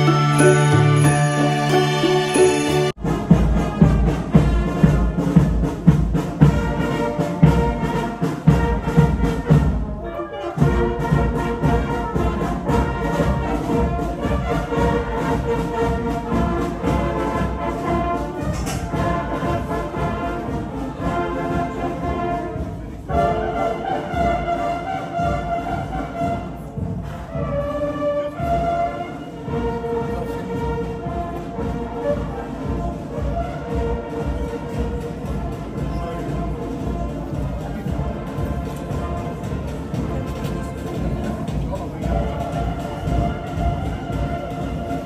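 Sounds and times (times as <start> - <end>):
marching brass band playing: 0.0 - 45.0.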